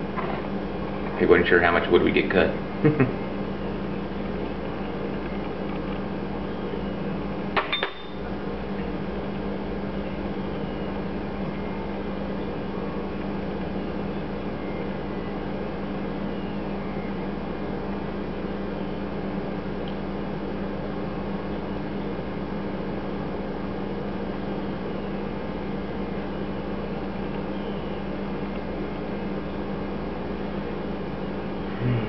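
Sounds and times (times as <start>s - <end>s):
electric fan humming: 0.0s - 32.0s.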